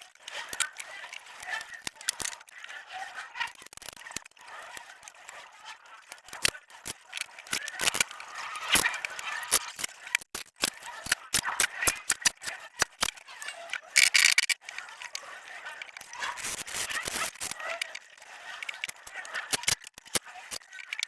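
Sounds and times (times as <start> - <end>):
irregular clicks: 0.0 - 21.0.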